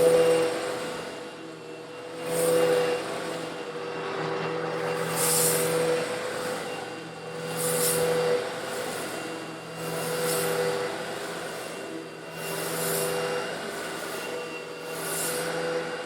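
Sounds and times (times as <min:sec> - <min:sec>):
vacuum cleaner motor hum: 0:00.0 - 0:16.0.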